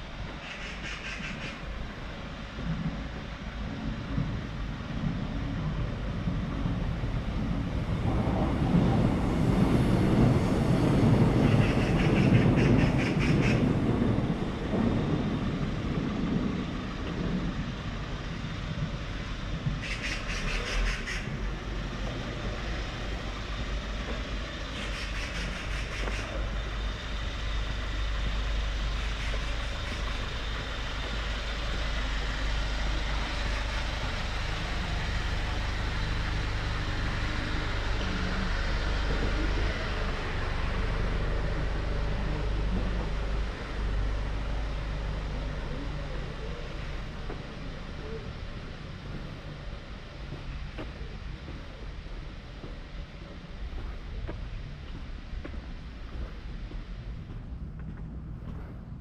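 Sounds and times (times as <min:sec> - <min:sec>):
traffic hum: 0:00.0 - 0:59.0.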